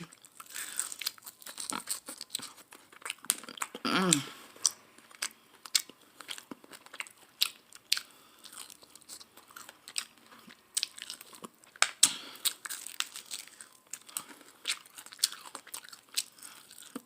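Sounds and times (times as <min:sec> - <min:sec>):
person chewing crispy chicken: 0:00.0 - 0:17.0.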